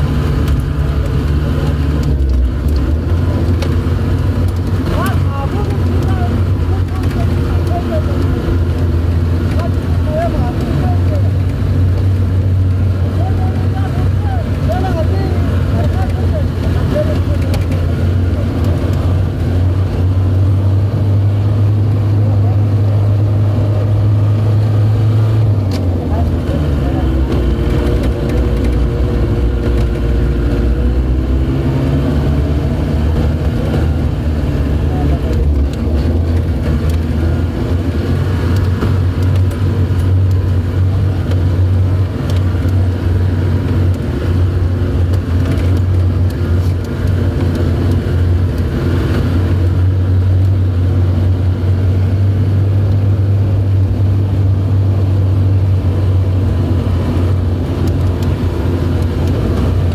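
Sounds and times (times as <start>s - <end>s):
knocks and rattles over bumps: 0.0s - 59.9s
vehicle engine running in low gear: 0.0s - 59.9s.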